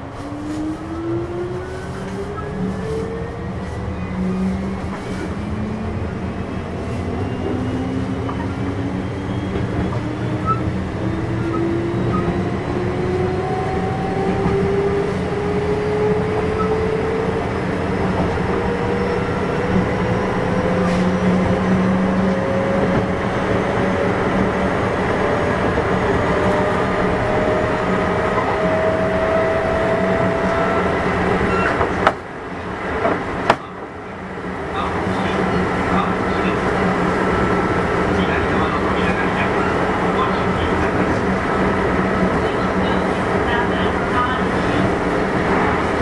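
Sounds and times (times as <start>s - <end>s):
wheels rumbling on rail: 0.0s - 46.0s.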